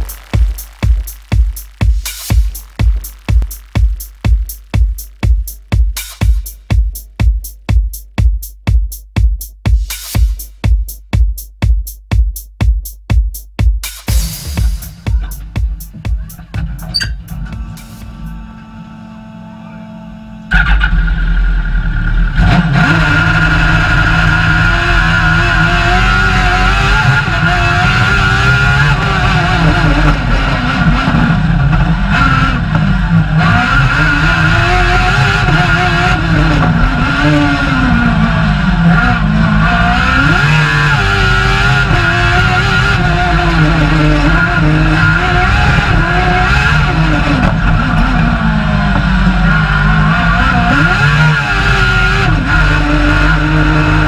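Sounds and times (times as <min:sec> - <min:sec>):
racing car engine revving: 0:00.0 - 0:06.4, 0:14.2 - 0:54.0.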